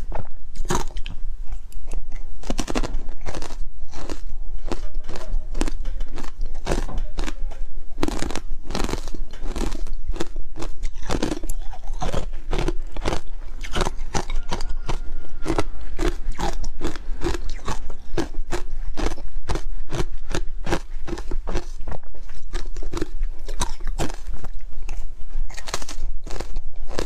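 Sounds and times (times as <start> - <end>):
ice being chewed: 0.0 - 27.0.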